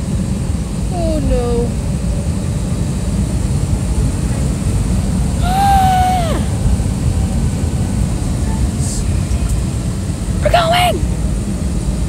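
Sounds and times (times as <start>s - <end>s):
airliner engines rumbling in cabin: 0.0s - 12.0s.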